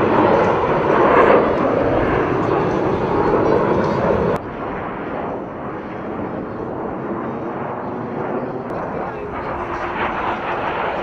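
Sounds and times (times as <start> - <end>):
fighter jets rushing: 0.0 - 11.0.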